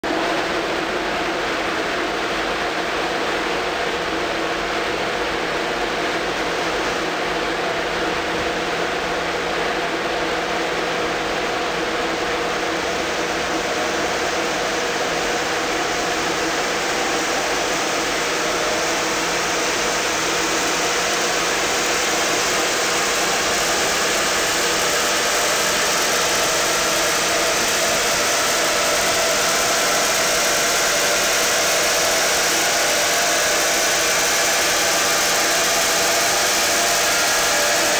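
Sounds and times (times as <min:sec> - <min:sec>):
loud rushing noise: 0:04.0 - 0:37.9.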